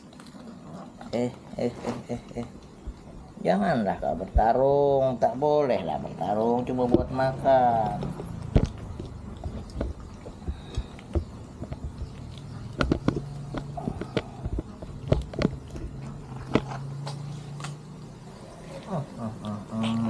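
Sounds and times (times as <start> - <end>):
kittens chewing and biting: 0.0 - 20.0.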